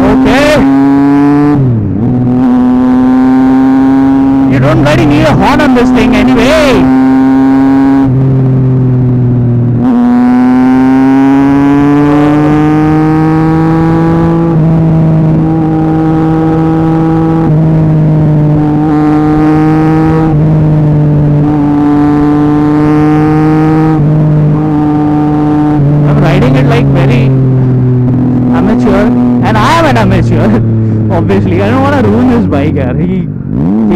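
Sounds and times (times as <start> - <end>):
loud motorcycle engine revving: 0.0 - 33.9.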